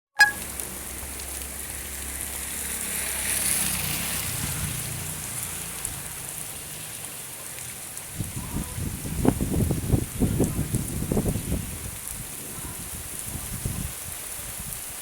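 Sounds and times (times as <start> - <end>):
heavy rain falling: 0.3 - 15.0.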